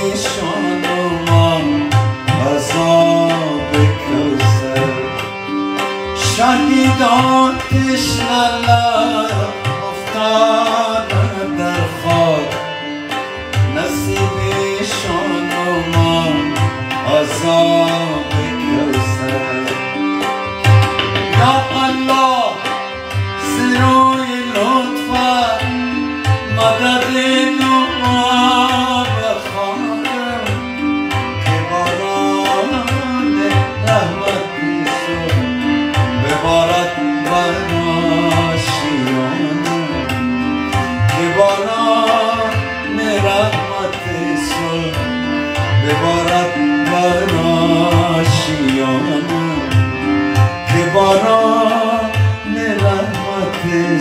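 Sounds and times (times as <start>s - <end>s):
harmonium melody: 0.0s - 54.0s
man singing: 0.0s - 54.0s
tabla drumming: 0.0s - 54.0s.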